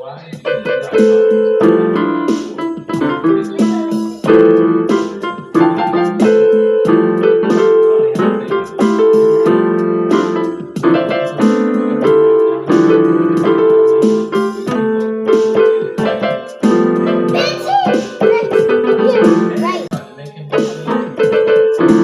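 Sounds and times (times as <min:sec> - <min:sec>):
keyboard playing piano chords: 0:00.0 - 0:22.0.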